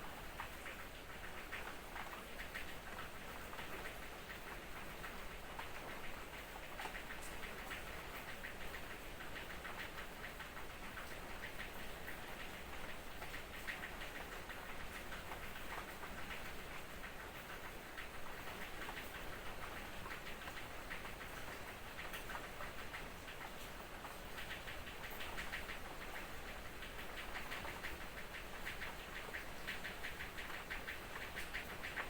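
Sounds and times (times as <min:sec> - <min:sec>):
light drizzle pattering: 0:00.0 - 0:32.0.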